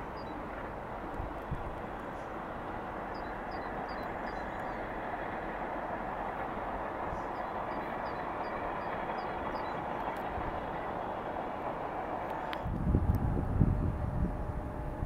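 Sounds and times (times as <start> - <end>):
train rushing rumble: 0.0 - 15.0.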